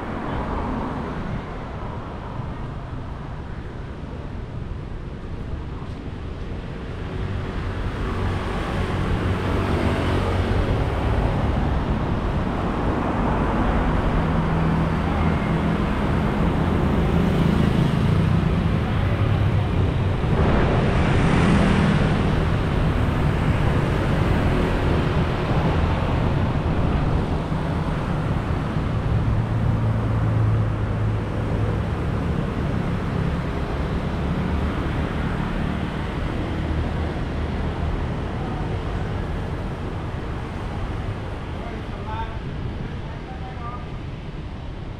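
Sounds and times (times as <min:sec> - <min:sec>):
scooters and cars passing: 0:00.0 - 0:44.9.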